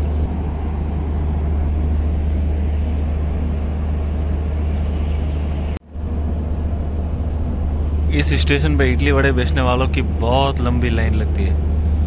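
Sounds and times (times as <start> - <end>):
stationary train humming: 0.0 - 12.0.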